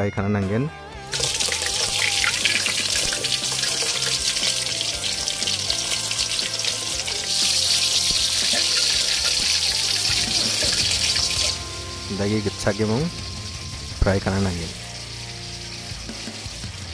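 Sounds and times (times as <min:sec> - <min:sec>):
chicken frying in hot oil: 0:01.1 - 0:16.9.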